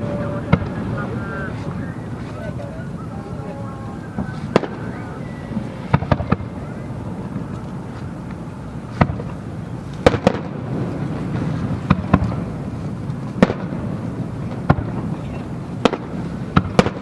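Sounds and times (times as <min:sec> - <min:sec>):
steady low rumble: 0:00.0 - 0:16.8
fireworks bursting with sharp cracks: 0:00.0 - 0:17.0.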